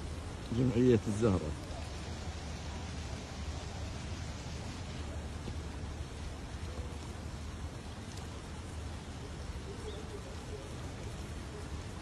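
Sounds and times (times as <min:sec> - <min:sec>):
heavy rain: 0:00.0 - 0:12.0
wind: 0:00.0 - 0:12.0.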